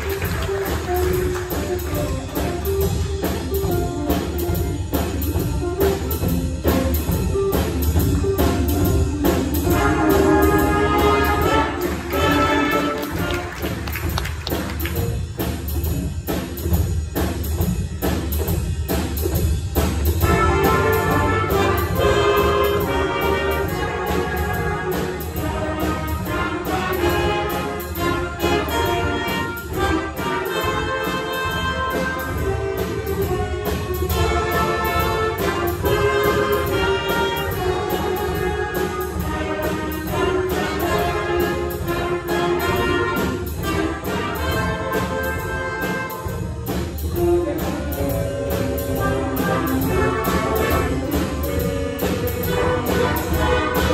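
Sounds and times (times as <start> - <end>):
saxophone and brass section: 0.0 - 14.2, 20.2 - 53.9
bass: 0.0 - 53.9
drums: 0.0 - 53.9.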